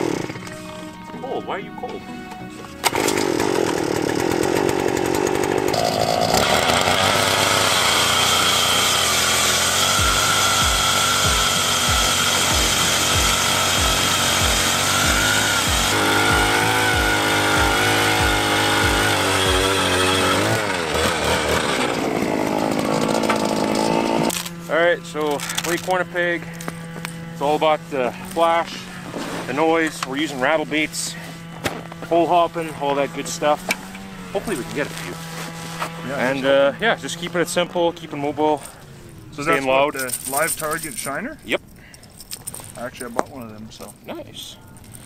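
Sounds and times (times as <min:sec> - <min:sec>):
ice auger engine running: 0:00.0 - 0:01.0, 0:02.8 - 0:38.8.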